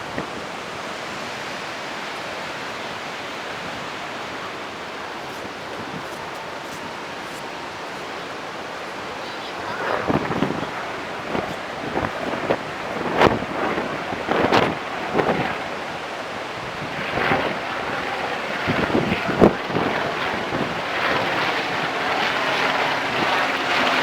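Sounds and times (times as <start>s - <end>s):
heavy surf rushing: 0.0s - 24.0s
wind gusting against microphone: 0.0s - 24.0s.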